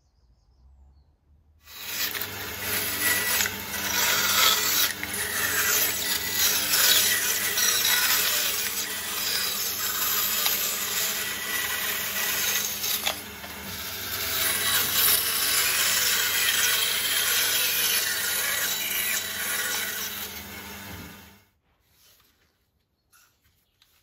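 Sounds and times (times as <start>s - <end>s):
band saw cutting: 1.7s - 21.4s.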